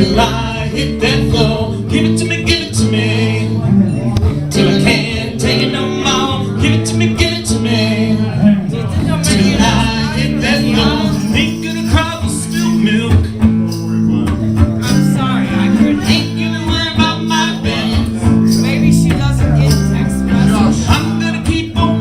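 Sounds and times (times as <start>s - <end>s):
person singing: 0.0s - 22.0s
strummed acoustic guitar: 0.0s - 22.0s.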